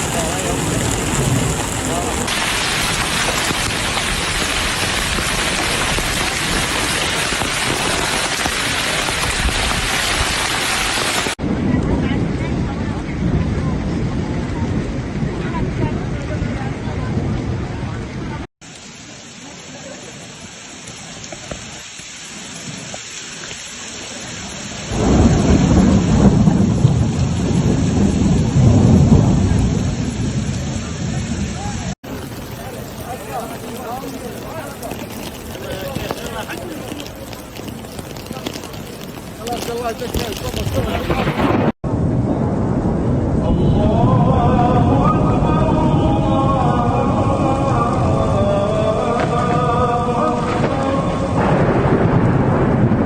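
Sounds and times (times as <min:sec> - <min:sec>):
heavy rain falling: 0:00.0 - 0:18.0, 0:18.6 - 0:53.0
thunder rumbling: 0:00.0 - 0:18.5, 0:23.9 - 0:53.0.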